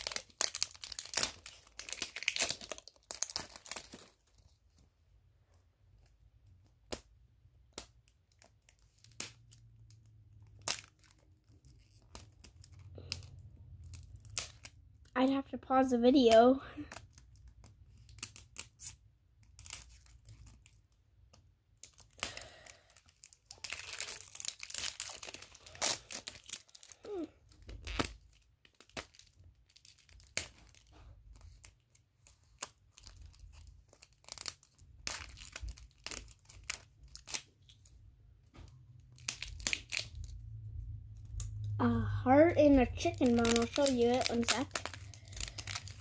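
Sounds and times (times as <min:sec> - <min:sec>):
wrapping crinkling and tearing: 0:00.0 - 0:04.8, 0:06.0 - 0:46.0.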